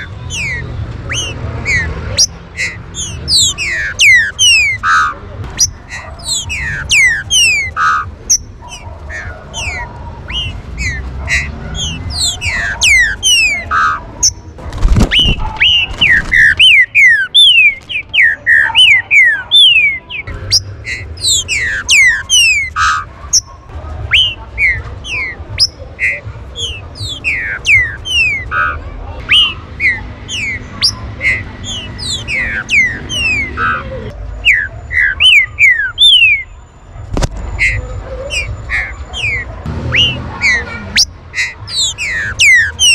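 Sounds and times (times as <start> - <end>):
birds whistling calls: 0.0 - 36.6, 37.5 - 42.9.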